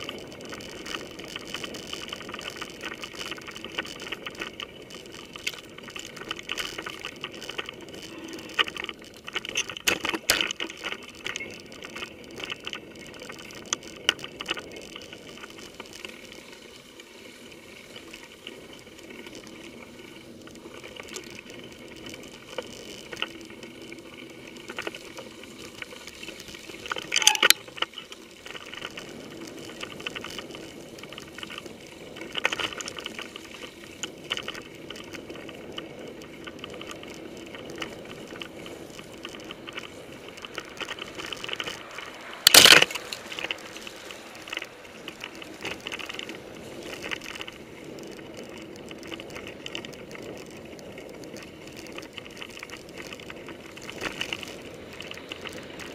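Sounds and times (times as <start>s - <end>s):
bike clicks and rattles: 0.0s - 55.9s
bike rolling and drivetrain noise: 0.0s - 55.9s.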